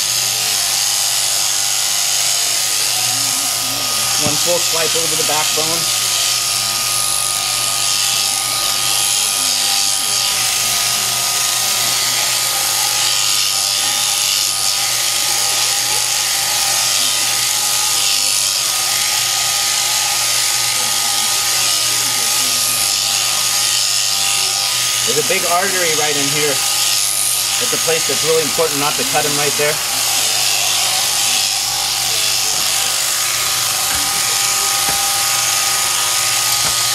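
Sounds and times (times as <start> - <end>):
shearing handpiece whirring: 0.0 - 36.9.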